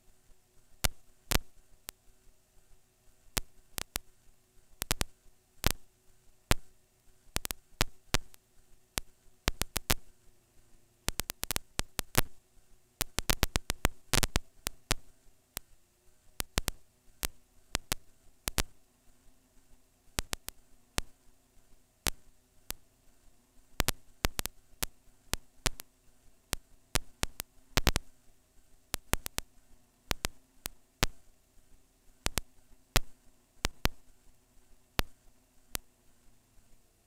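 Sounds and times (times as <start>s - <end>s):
faint steady hum: 0.0s - 37.0s
sharp clicks and crackles: 0.7s - 5.9s, 6.5s - 8.4s, 9.0s - 10.1s, 11.0s - 12.4s, 13.0s - 18.8s, 19.6s - 36.8s.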